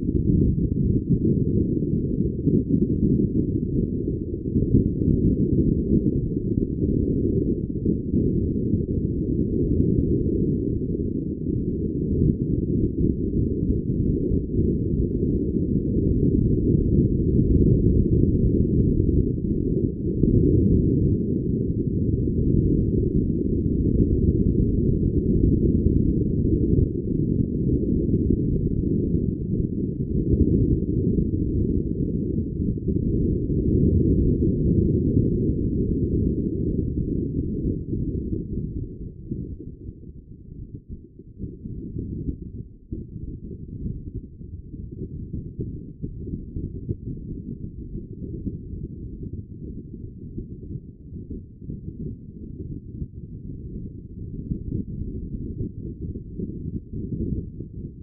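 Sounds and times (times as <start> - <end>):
wind and water rumble: 0.0 - 58.0.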